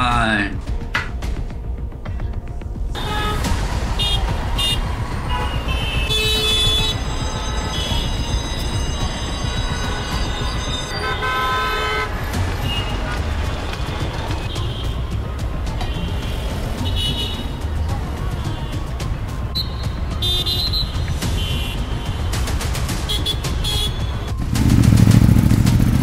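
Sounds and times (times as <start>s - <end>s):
traffic rumble: 0.6s - 26.0s
car horns honking: 3.0s - 25.6s.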